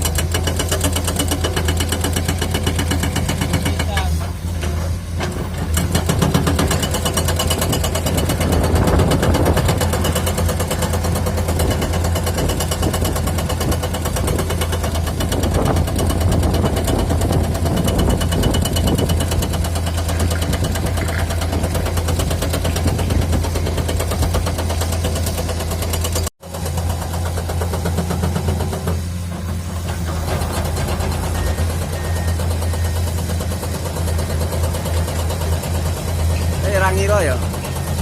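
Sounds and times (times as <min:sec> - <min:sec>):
hydraulic breaker hammering rock: 0:00.0 - 0:04.4, 0:05.2 - 0:38.0
diesel engine running: 0:00.0 - 0:38.0.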